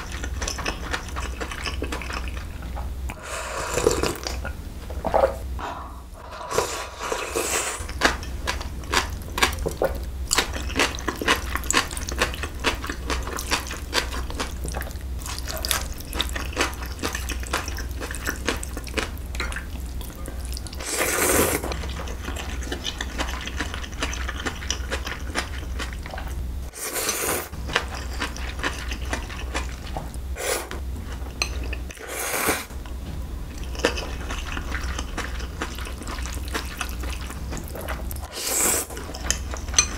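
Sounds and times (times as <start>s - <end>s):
wet chewing and slurping noodles: 0.0s - 4.6s, 6.2s - 32.8s, 33.5s - 39.9s.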